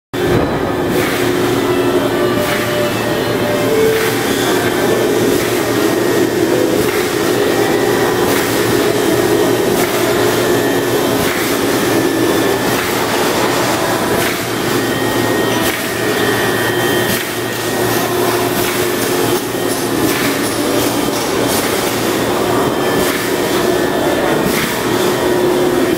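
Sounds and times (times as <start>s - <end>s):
machine motor and blower hum: 0.2s - 25.9s.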